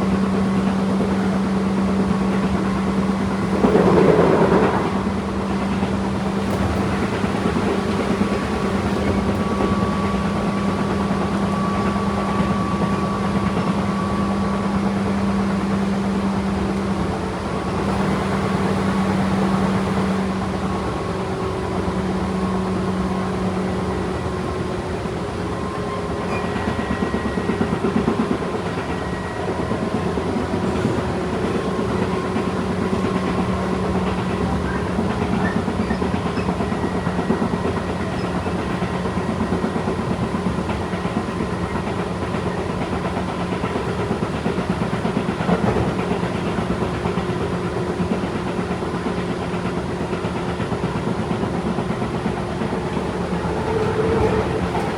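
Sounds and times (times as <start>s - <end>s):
electric train motor hum: 0.0s - 54.9s
wheel and rail noise: 0.0s - 54.9s.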